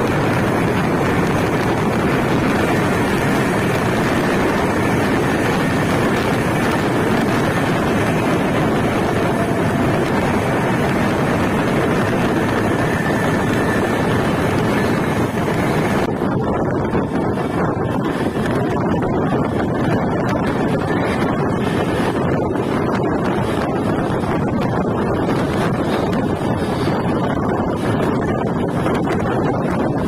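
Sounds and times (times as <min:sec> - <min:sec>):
train wheels rumbling on rail: 0:00.0 - 0:30.0
wind rushing across microphone: 0:00.0 - 0:30.0.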